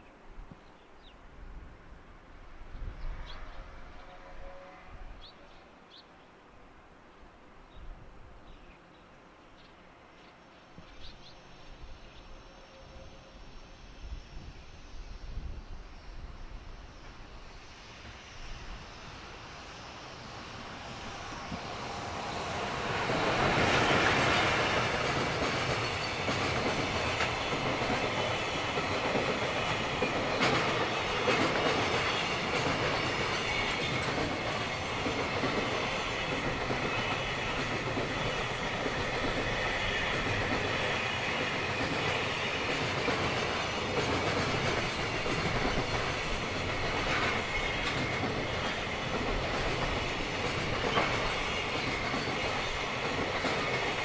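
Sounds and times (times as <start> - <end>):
electric locomotive passing: 1.0 - 54.0.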